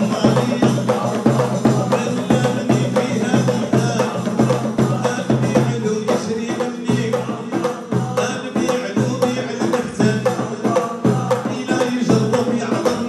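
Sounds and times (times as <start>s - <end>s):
frame drums and hand drums: 0.0s - 13.0s.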